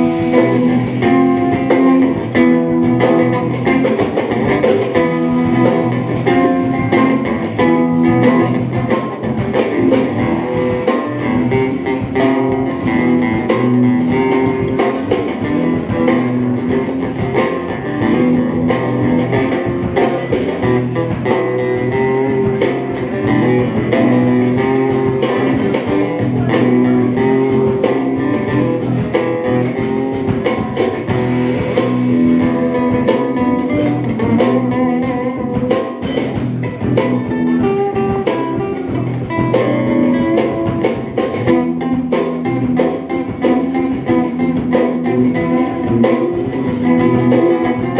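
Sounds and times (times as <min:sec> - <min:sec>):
bass guitar: 0:00.0 - 0:47.9
electric guitar lead: 0:00.0 - 0:47.9
steady drum beat: 0:00.0 - 0:47.9.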